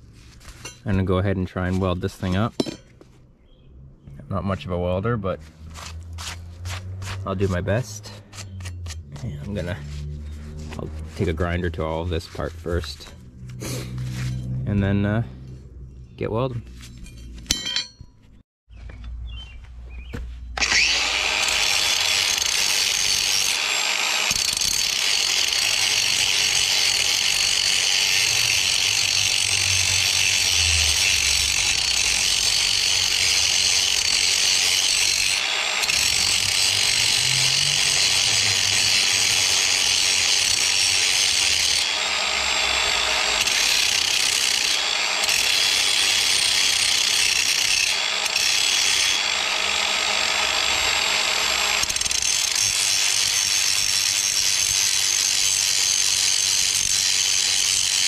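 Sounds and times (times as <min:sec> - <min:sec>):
angle grinder grinding steel: 0:05.4 - 0:15.6, 0:20.6 - 0:58.0.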